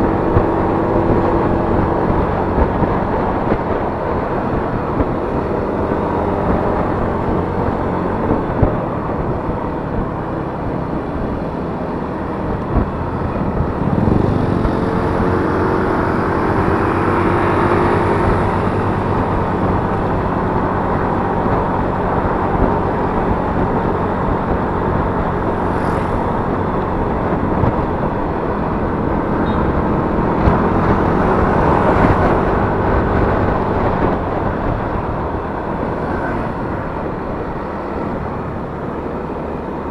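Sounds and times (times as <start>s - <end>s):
road noise: 0.0s - 39.9s
scooter engine running: 0.0s - 39.9s
wind rushing: 0.0s - 39.9s.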